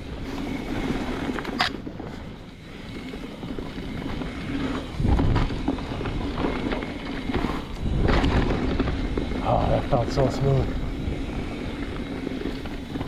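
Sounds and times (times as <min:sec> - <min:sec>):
bike jolt: 0:00.0 - 0:13.0
bike rattling and clicking: 0:00.0 - 0:13.0
bike tyres rumbling on dirt: 0:00.0 - 0:13.0
wind buffeting microphone: 0:00.0 - 0:13.0.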